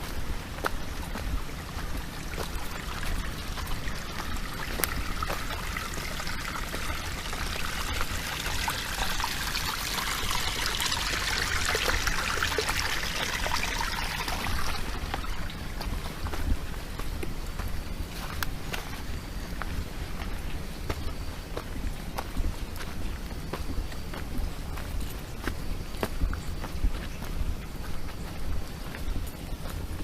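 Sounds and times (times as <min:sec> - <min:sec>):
stream trickling and splashing: 0:00.0 - 0:30.0.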